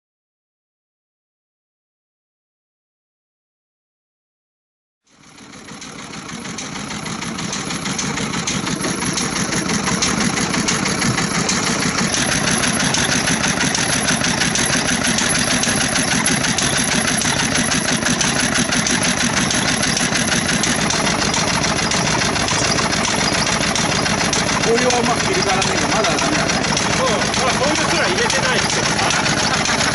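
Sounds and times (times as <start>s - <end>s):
stationary engine running: 5.1s - 29.9s.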